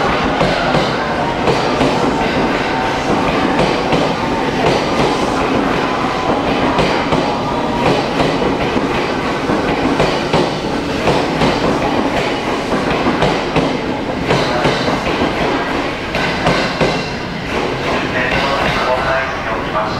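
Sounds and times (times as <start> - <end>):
train rolling rumble: 0.0 - 19.9.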